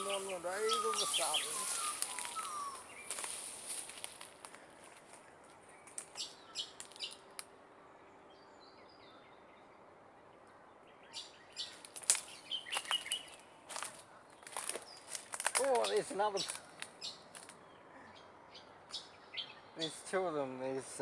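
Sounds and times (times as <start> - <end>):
small birds chirping: 0.0 - 7.5, 8.3 - 21.0.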